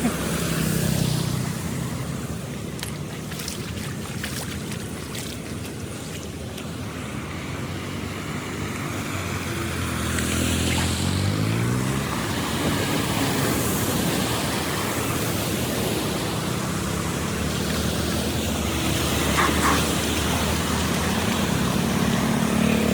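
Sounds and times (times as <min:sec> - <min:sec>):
flowing water rushing: 0:00.0 - 0:22.9.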